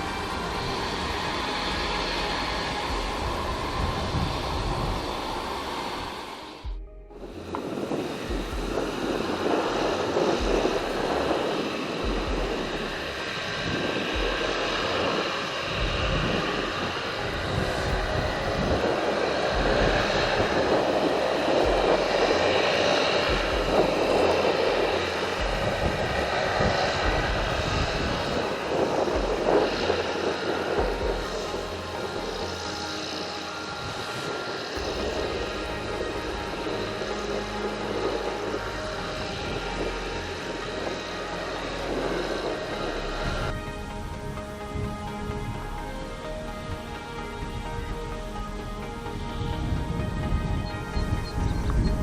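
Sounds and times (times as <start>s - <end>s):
aircraft engines running: 0.0s - 52.0s
wind buffeting microphone: 0.0s - 52.0s.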